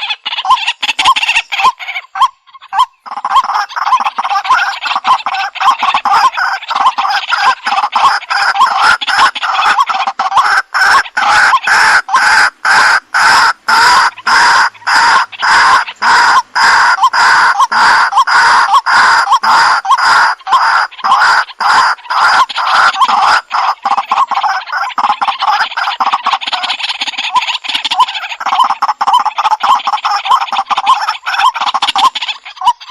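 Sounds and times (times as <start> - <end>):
waterhen calling: 0.0 - 32.9.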